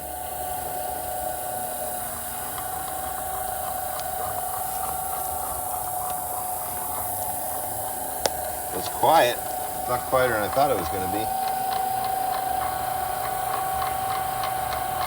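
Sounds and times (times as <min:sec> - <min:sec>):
cement mixer running: 0:00.0 - 0:15.0.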